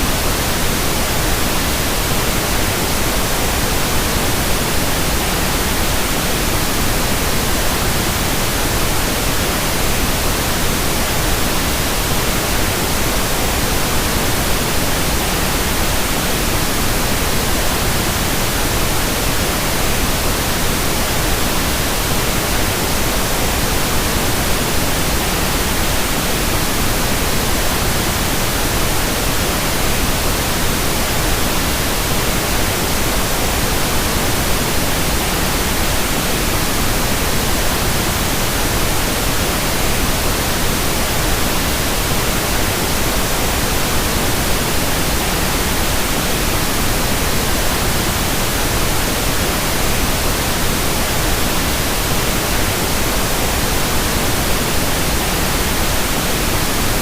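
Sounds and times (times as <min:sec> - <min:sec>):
steady broadband hiss: 0:00.0 - 0:57.0.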